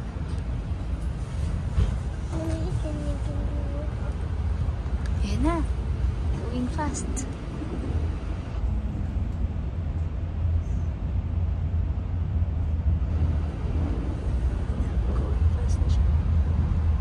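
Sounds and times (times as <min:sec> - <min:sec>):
train low rumble inside car: 0:00.0 - 0:17.0.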